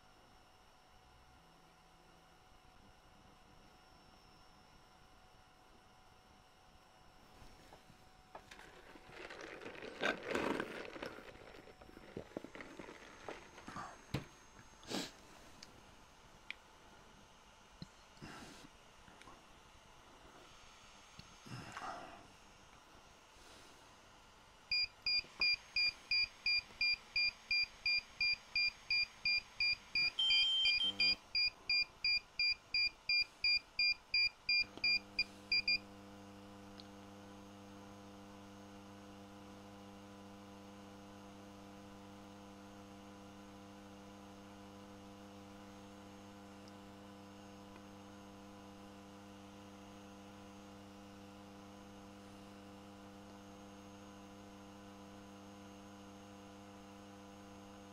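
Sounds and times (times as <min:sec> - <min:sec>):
steady electrical hum: 0:00.0 - 0:57.9.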